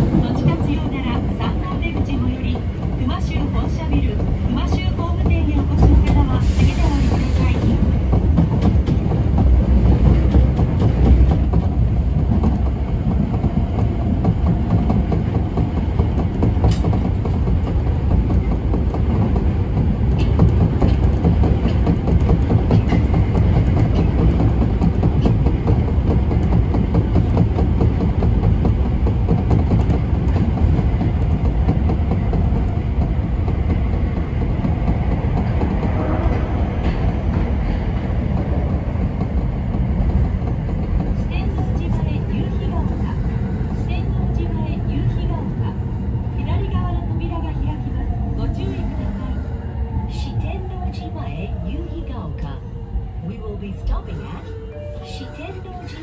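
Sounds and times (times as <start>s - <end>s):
subway train rumbling in tunnel: 0.0s - 56.0s.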